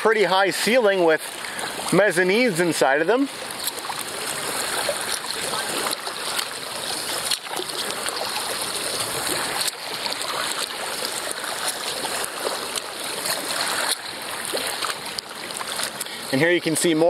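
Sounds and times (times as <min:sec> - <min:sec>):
paddle swishes and drips: 0:00.0 - 0:17.0
water splashing and trickling: 0:00.0 - 0:17.0.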